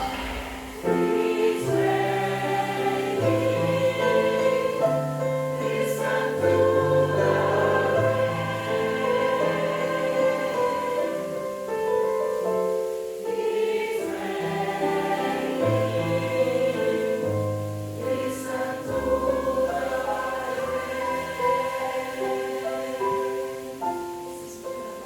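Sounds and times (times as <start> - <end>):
choir singing sustained chords: 0.0 - 25.0.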